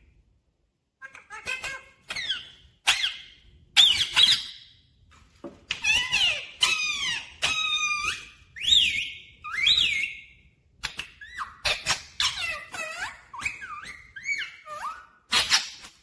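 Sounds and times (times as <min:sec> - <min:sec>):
parakeet squeaky whistles and chirps: 0:01.1 - 0:04.8, 0:05.7 - 0:16.0.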